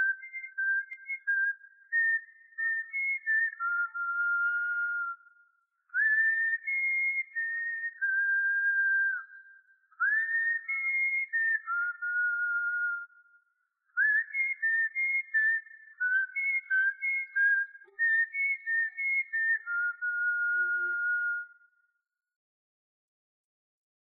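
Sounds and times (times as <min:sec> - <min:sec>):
person whistling a tune: 0:00.0 - 0:13.4, 0:14.0 - 0:21.8.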